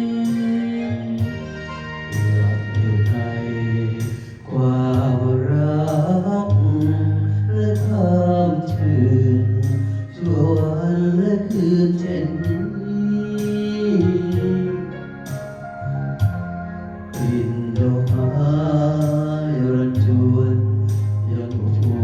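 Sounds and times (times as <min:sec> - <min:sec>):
person singing: 0:00.0 - 0:16.5, 0:17.1 - 0:22.0
instrumental backing: 0:00.0 - 0:22.0.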